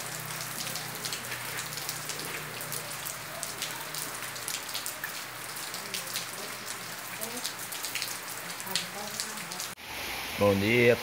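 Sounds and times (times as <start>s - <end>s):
raindrops ticking: 0.0s - 9.8s
heavy rain: 0.0s - 11.0s.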